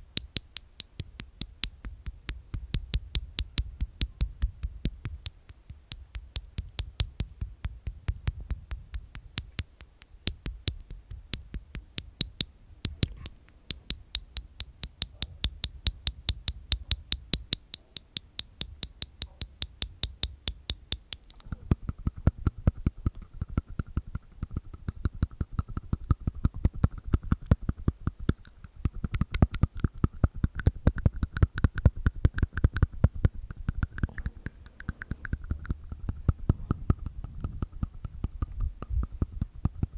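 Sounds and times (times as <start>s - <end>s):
wet tongue and mouth clicks: 0.0s - 39.9s.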